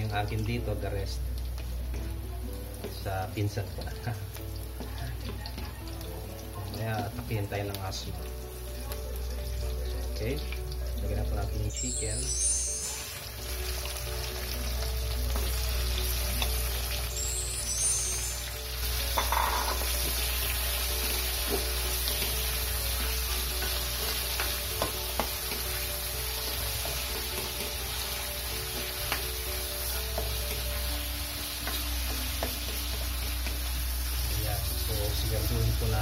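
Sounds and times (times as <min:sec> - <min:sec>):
chicken sizzling in hot oil: 0:00.0 - 0:36.0.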